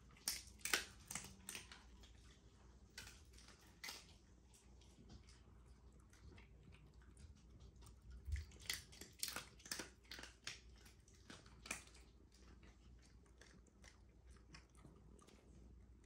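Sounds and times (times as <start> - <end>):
dog crunching dry kibble: 0.0 - 15.5.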